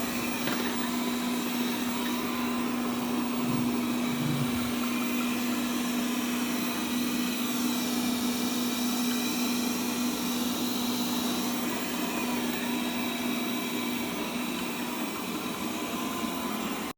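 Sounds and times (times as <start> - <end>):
robot vacuum whirring: 0.0 - 16.8.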